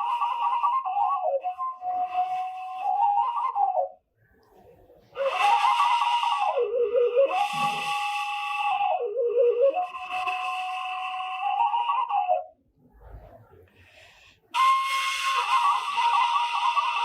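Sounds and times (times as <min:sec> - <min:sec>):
bamboo flute breathy melody: 0:00.0 - 0:17.0.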